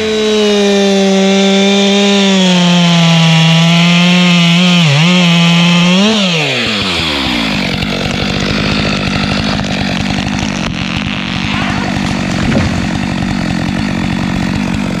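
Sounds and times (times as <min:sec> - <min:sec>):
chainsaw engine idling: 0:00.0 - 0:15.0.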